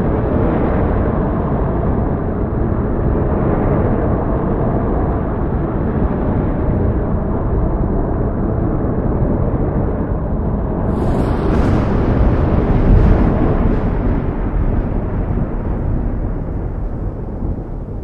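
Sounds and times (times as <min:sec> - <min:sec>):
thunderstorm rumble: 0:00.0 - 0:18.0.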